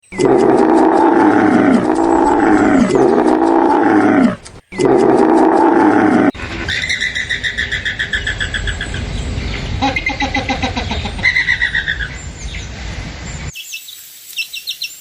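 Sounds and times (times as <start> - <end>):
lion roaring: 0.0 - 13.5.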